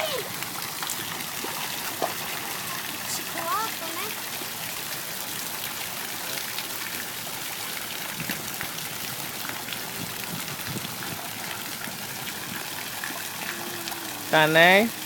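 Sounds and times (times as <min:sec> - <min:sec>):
fountain water splashing into basin: 0:00.0 - 0:15.0.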